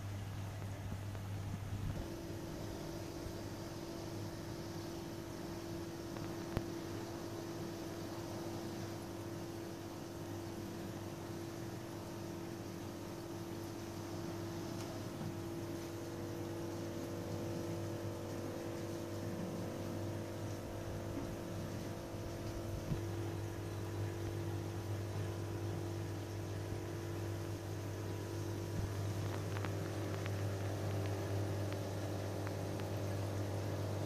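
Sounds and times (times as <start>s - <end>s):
aquarium pumps humming: 0.0s - 34.0s
soft hiss: 0.0s - 34.0s.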